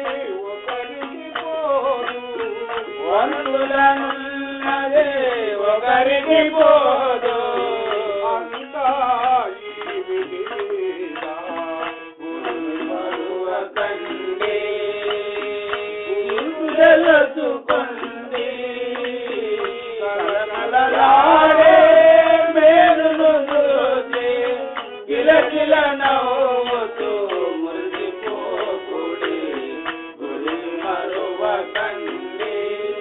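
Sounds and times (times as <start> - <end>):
person singing devotional song: 0.0 - 33.0
tabla: 0.0 - 33.0.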